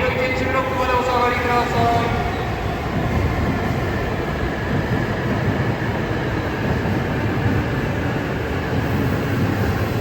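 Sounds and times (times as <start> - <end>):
bullet train passing: 0.0 - 10.0.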